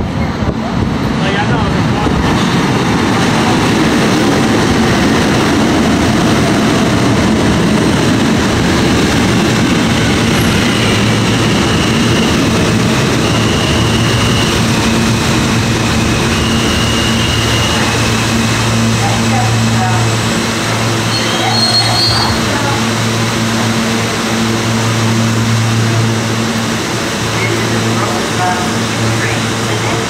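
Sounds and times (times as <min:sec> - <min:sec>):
low hum of standing train: 0:00.0 - 0:30.0
subway train rumbling: 0:00.0 - 0:30.0.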